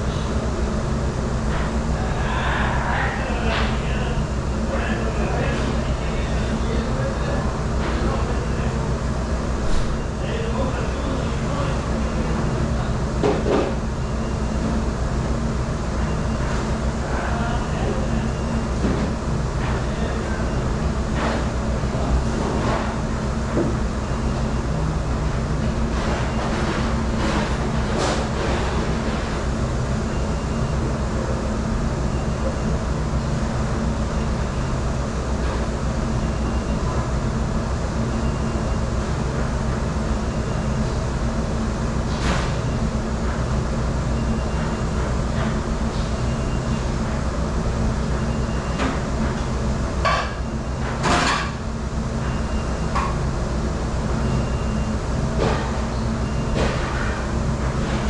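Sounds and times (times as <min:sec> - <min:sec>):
dish room machinery drone: 0:00.0 - 0:58.0.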